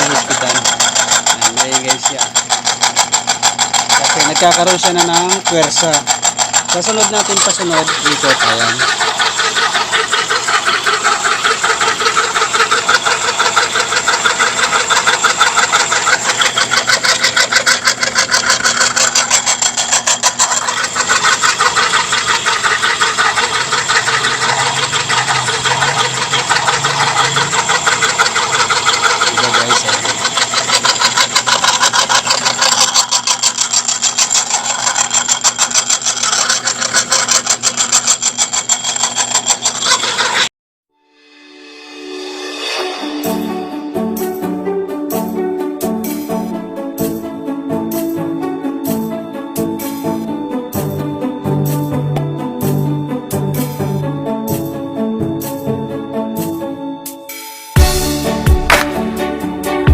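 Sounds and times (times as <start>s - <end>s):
grinder motor drone with rattle: 0.0s - 40.5s, 42.4s - 56.9s.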